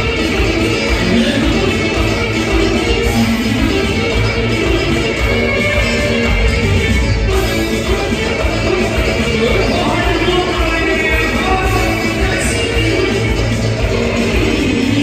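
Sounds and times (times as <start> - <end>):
wedding band dance music: 0.0 - 15.0.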